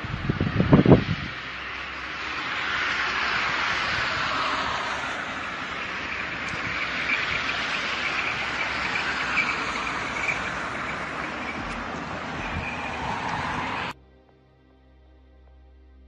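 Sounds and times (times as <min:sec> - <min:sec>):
strong wind rushing: 0:00.0 - 0:14.0.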